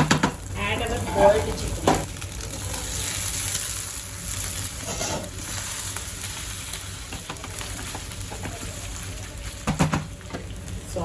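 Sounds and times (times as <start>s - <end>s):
chicken sizzling in hot oil: 0.0s - 11.0s
stirring in a pan: 0.2s - 10.8s.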